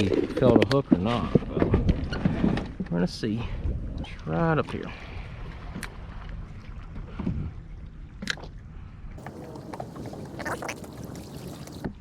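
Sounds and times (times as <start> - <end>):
water lapping against kayak: 0.0 - 12.0.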